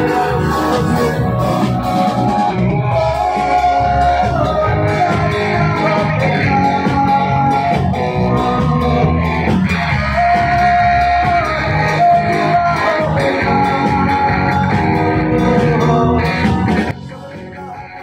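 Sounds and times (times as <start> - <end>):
electric guitar: 0.0 - 18.0
live rock band playing: 0.0 - 18.0
singer holding long notes: 0.0 - 18.0.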